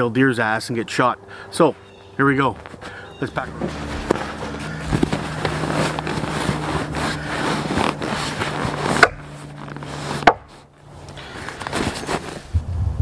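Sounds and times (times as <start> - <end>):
nylon fabric rustling: 1.8 - 12.5.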